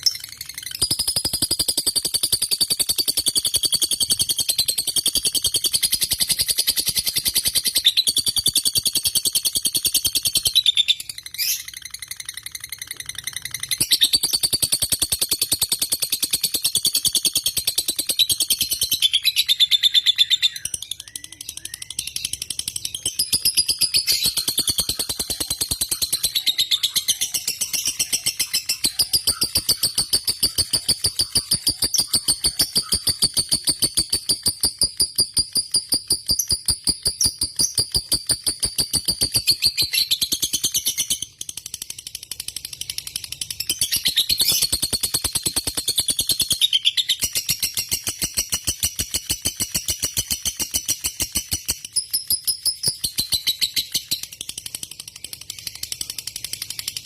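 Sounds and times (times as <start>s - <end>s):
lovebird chattering trill: 0.0s - 41.4s, 43.7s - 54.3s.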